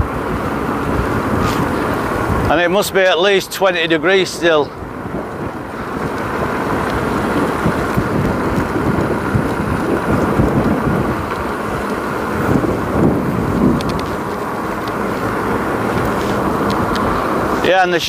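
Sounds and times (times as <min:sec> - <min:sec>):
wind noise on microphone: 0:00.0 - 0:02.6, 0:04.7 - 0:17.7
tyre rumbling on pavement: 0:00.0 - 0:03.0, 0:03.8 - 0:18.0.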